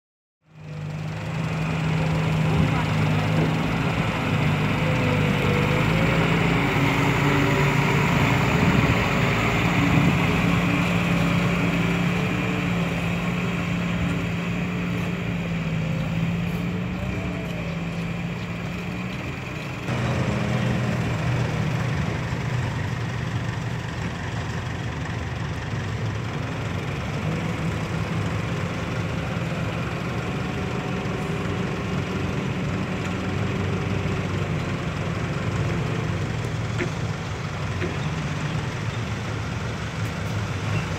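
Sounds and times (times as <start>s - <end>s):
diesel truck engine running: 0.4s - 40.9s.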